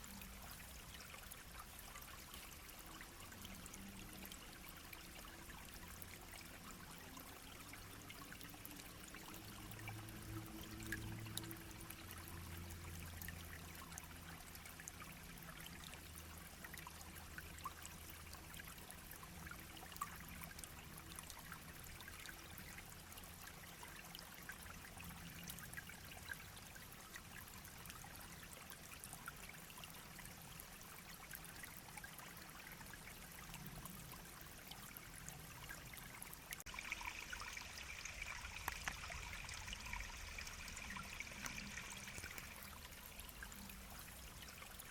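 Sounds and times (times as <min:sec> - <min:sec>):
faint low hum: 0:00.0 - 0:44.9
stream babbling over stones: 0:00.0 - 0:44.9.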